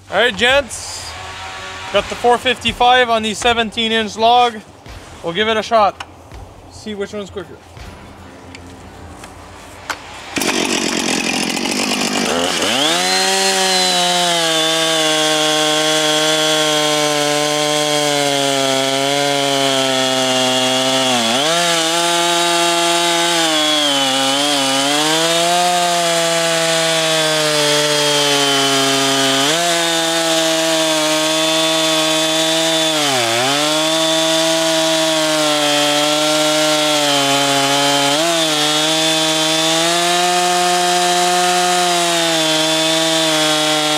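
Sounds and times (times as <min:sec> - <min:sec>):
chainsaw cutting through log: 0:00.0 - 0:03.9, 0:10.0 - 0:43.9.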